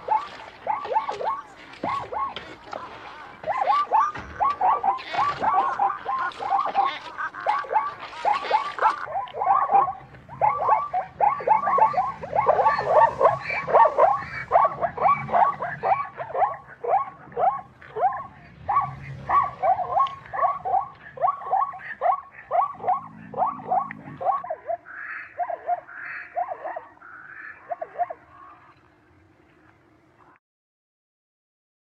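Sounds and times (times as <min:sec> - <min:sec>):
zebra barking yips: 0:00.0 - 0:28.8.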